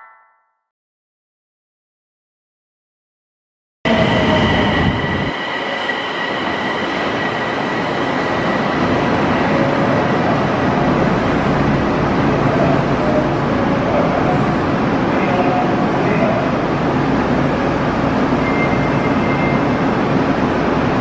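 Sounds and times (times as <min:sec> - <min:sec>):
high train whine: 0:03.9 - 0:21.0
subway train rail rumble: 0:03.9 - 0:21.0.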